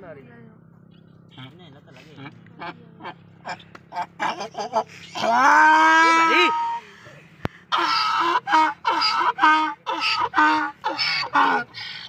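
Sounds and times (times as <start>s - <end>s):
donkey braying: 1.3s - 12.0s.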